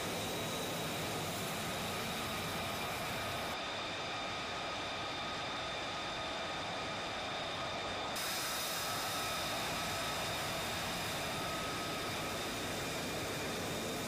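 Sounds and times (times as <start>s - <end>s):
jet engine hissing and whining: 0.0s - 14.0s.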